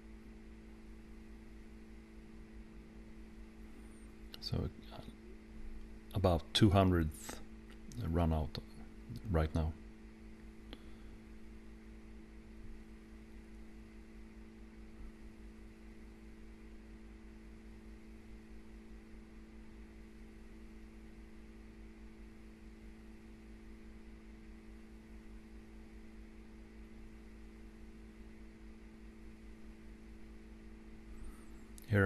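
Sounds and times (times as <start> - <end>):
faint steady room hum: 0.0 - 32.0.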